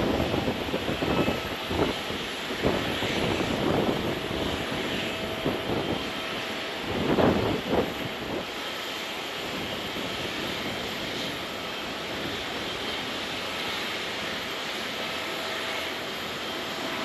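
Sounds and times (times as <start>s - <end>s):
jet engine rushing hiss: 0.0s - 17.0s
wind buffeting microphone: 0.0s - 17.0s.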